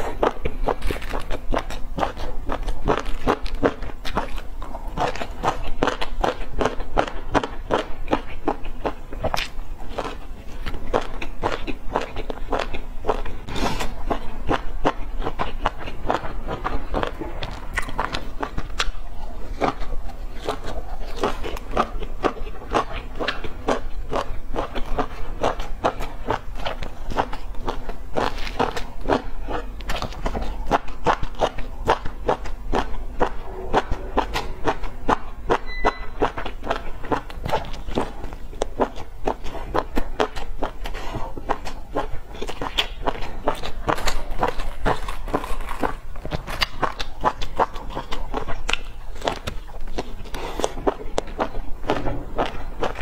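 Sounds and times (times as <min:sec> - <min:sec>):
chewing with wet mouth clicks: 0:00.0 - 0:53.0.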